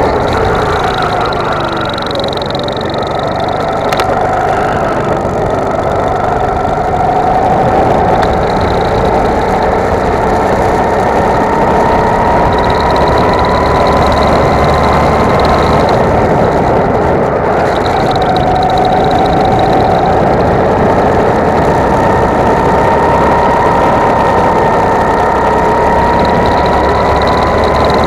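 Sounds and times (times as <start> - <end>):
go-kart engine at full throttle: 0.0 - 28.0.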